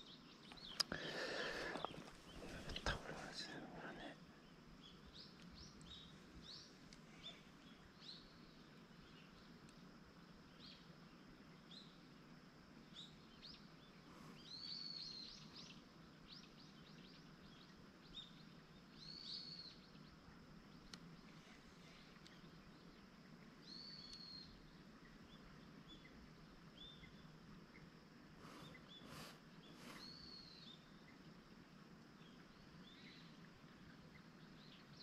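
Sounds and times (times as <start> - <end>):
faint steady hiss: 0.0 - 35.0
small birds chirping: 0.0 - 35.0.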